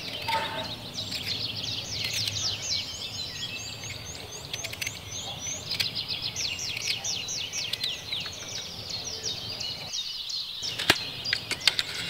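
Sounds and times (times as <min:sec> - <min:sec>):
sharp clicks: 0:00.0 - 0:08.8, 0:10.6 - 0:12.0
birds chirping: 0:00.0 - 0:12.0.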